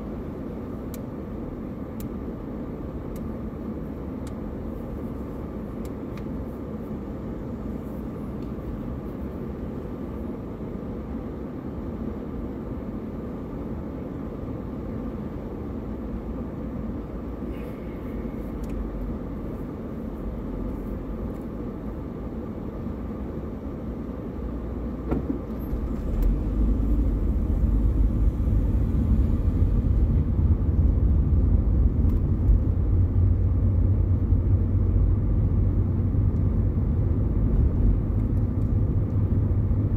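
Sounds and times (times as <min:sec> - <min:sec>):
car driving engine rumble: 0:00.0 - 0:39.9
car engine idling hum: 0:00.0 - 0:39.9.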